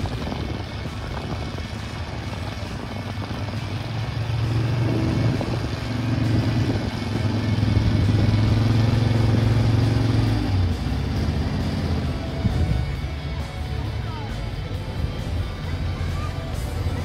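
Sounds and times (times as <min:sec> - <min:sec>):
truck engine labouring: 0:00.0 - 0:17.0.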